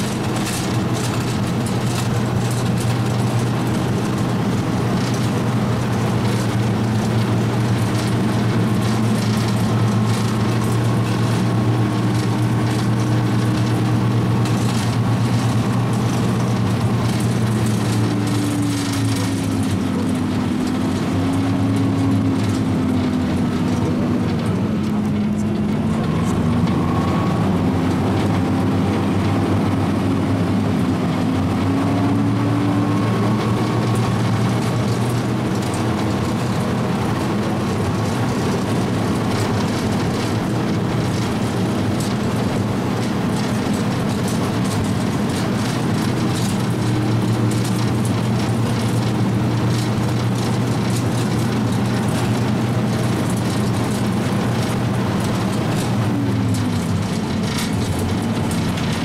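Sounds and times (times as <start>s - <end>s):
vehicle engine running: 0.0s - 59.0s
vehicle rattling: 0.0s - 59.0s.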